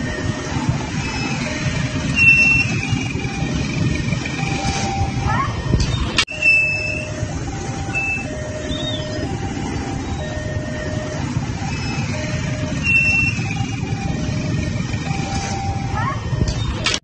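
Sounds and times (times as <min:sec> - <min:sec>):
level-crossing two-tone signal: 0:00.0 - 0:16.8
motorcycle engines idling: 0:00.0 - 0:16.9.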